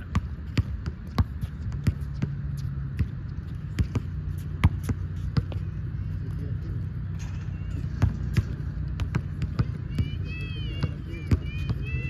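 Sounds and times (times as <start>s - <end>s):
basketball bouncing on concrete: 0.0s - 6.3s, 7.0s - 12.0s.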